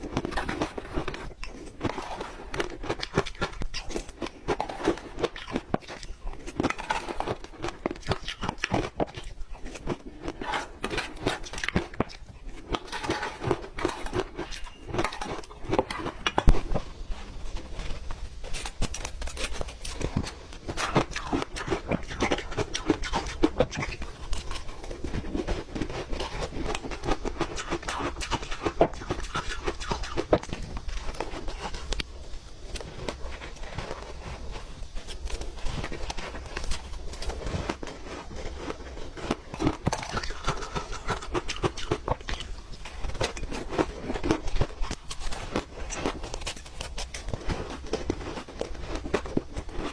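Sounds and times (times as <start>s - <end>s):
ice being chewed and crunched: 0.0s - 49.9s.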